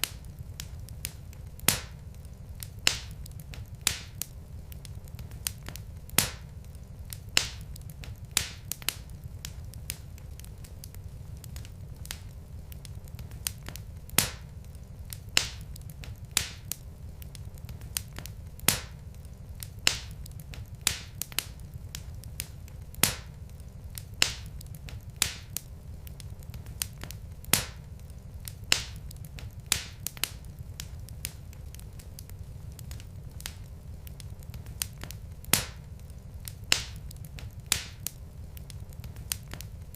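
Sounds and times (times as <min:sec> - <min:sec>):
low steady rumble: 0:00.0 - 0:39.9
wood fire crackling: 0:00.0 - 0:39.9.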